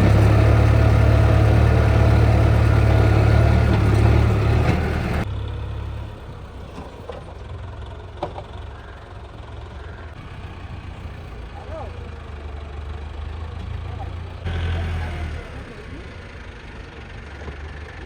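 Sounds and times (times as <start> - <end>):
engine idling: 0.0 - 18.0
tractor diesel engine running: 0.0 - 18.0.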